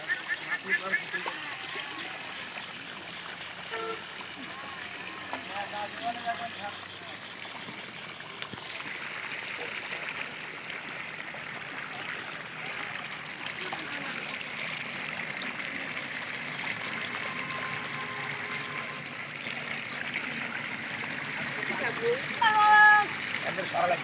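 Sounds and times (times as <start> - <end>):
water running into muddy pit: 0.0 - 24.0.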